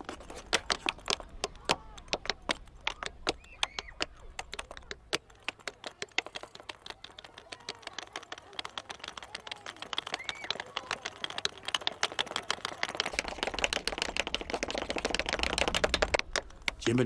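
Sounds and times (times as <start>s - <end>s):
tap shoes clicking: 0.0s - 17.0s.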